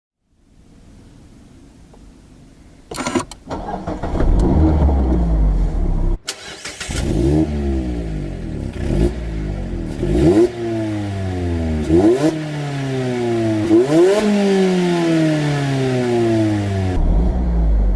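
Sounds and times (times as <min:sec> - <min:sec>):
car engine starting and revving: 0:03.0 - 0:17.9.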